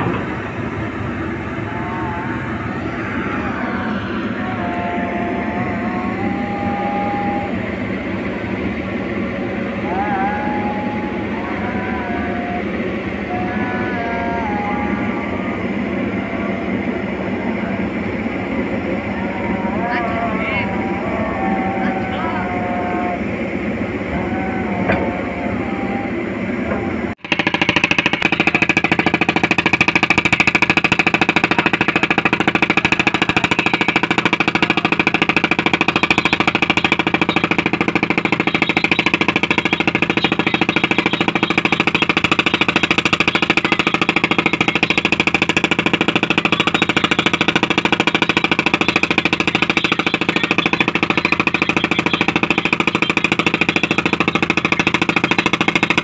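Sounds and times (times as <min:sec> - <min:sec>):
machine running with fast pulse: 0:00.0 - 0:56.0.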